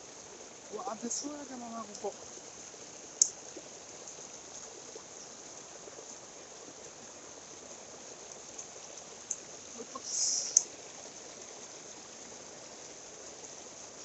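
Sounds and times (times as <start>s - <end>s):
mountain stream running: 0.0s - 14.0s.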